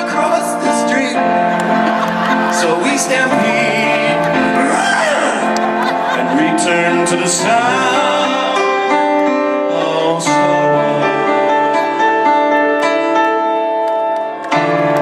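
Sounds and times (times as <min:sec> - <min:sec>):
person singing: 0:00.0 - 0:12.5.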